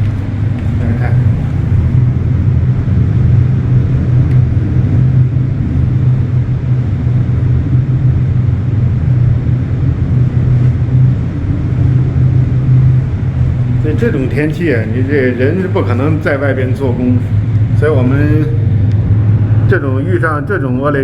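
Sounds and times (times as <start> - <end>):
gale wind howling: 0.0 - 21.0.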